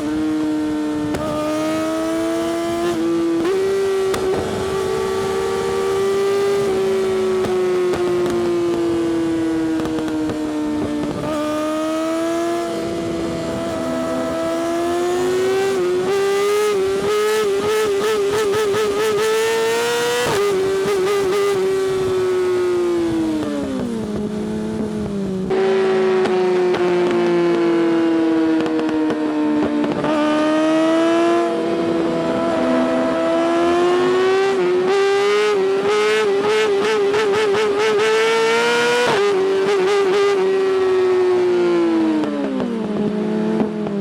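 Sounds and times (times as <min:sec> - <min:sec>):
motorcycle engine revving high: 0:00.0 - 0:44.0.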